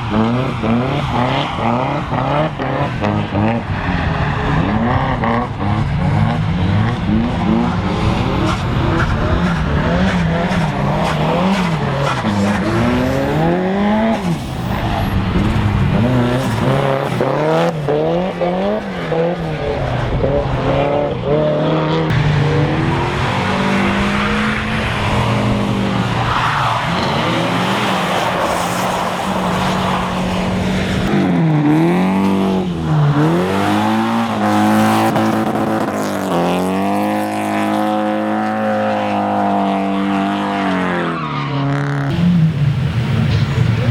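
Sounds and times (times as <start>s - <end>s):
tyres skidding on wet track: 0.0s - 20.6s, 22.1s - 39.4s
car engines revving: 0.0s - 43.9s.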